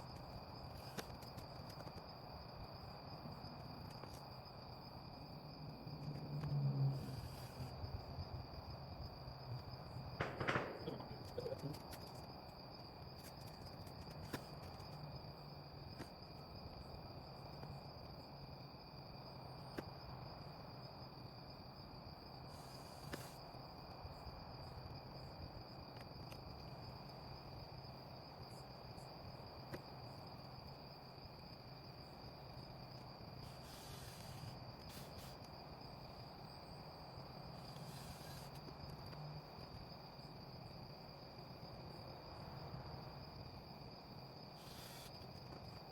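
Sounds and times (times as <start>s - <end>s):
night insects chorus: 0.0s - 45.9s.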